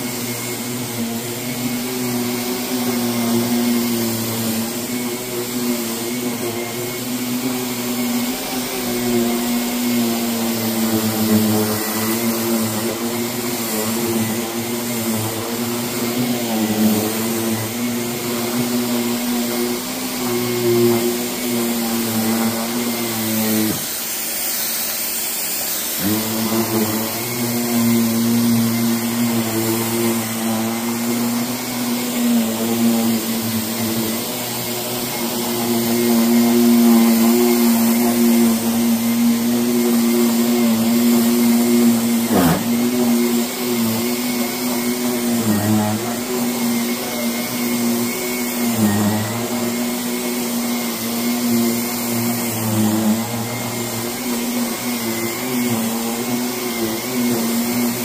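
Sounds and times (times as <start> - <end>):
floor scrubbing machine humming: 0.0 - 58.0.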